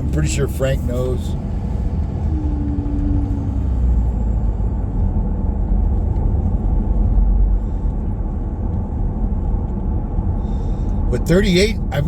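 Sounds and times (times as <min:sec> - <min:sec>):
tyres on snowy road: 0:00.0 - 0:12.0
vehicle engine rumble: 0:00.0 - 0:12.0.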